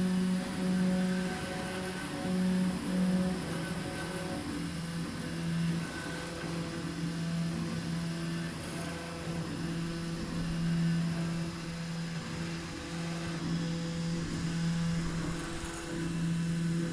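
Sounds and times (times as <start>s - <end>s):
stepper motors whining: 0.0s - 16.9s.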